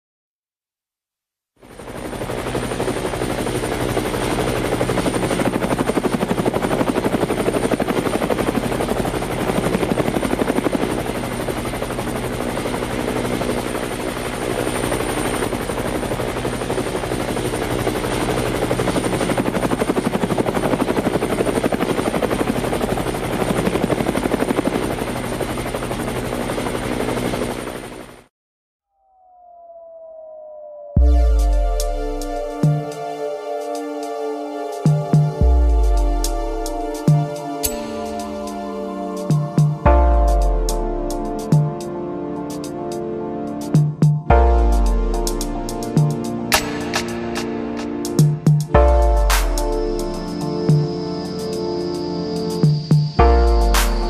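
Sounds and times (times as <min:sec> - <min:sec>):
helicopter rotor whirring: 0:01.6 - 0:28.3, 0:29.1 - 0:54.0.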